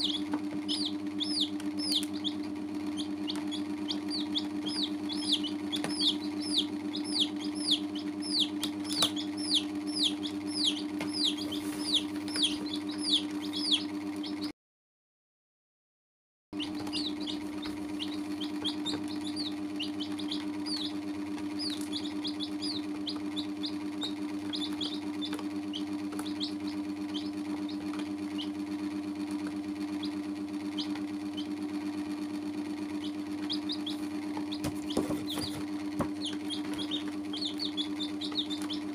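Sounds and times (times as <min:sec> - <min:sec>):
chicks peeping: 0:00.0 - 0:14.5, 0:16.6 - 0:38.9
steady low hum: 0:00.0 - 0:14.5, 0:16.6 - 0:38.9.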